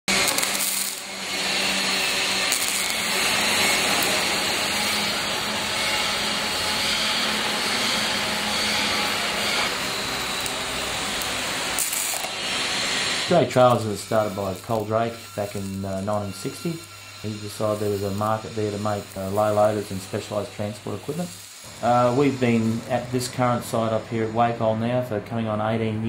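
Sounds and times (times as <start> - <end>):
arc welder hissing: 0.0 - 25.5.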